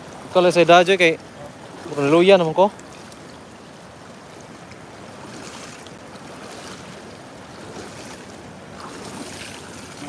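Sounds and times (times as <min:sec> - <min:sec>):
floodwater washing over river bank: 0:00.0 - 0:10.0.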